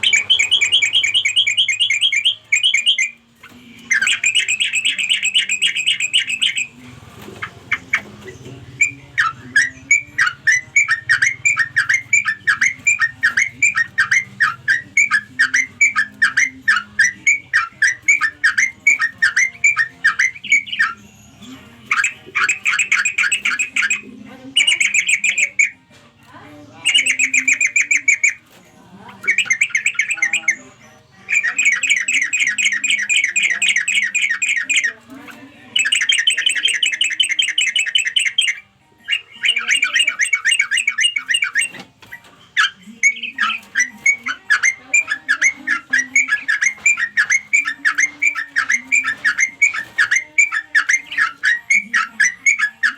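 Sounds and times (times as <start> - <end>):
bird chattering calls: 0.0 - 52.9.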